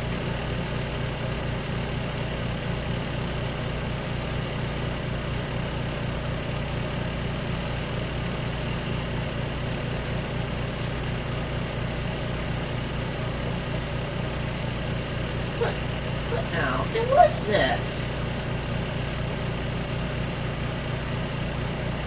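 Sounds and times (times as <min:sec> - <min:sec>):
washing machine motor running: 0:00.0 - 0:22.0.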